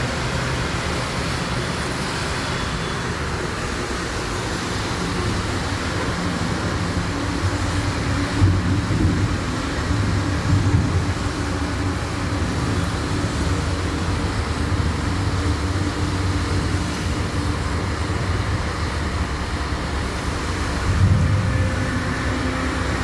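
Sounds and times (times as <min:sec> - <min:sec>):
road traffic rumble and hiss: 0:00.0 - 0:23.0.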